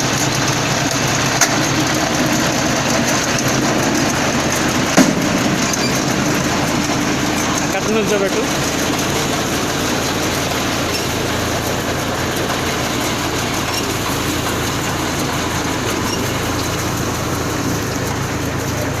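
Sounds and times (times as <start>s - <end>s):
engine humming: 0.0s - 19.0s
straw baler rattling: 0.0s - 19.0s.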